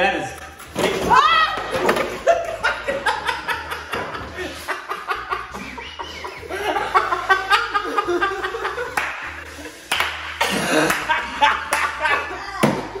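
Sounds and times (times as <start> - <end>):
people laughing: 1.7 - 12.6.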